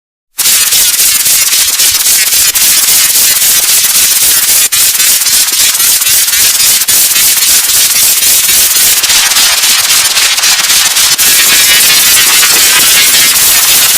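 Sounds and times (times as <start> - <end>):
distorted crackling static: 0.4 - 13.9.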